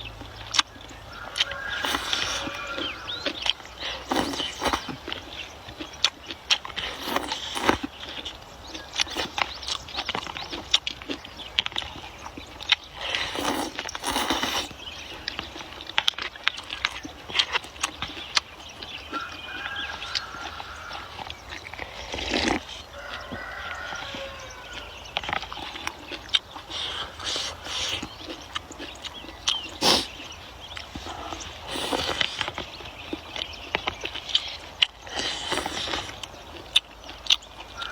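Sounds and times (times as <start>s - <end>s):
wet chewing sounds: 0.0s - 37.9s.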